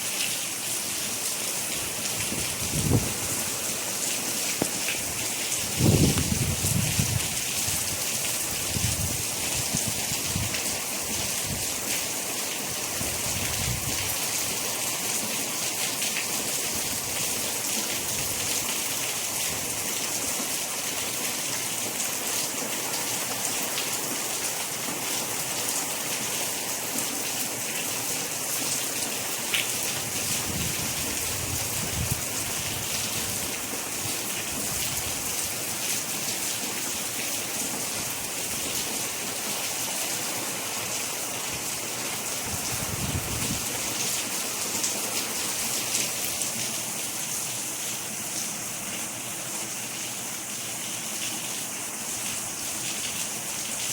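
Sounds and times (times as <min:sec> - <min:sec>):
heavy rain hissing: 0:00.0 - 0:53.9
loud raindrops: 0:00.0 - 0:53.9.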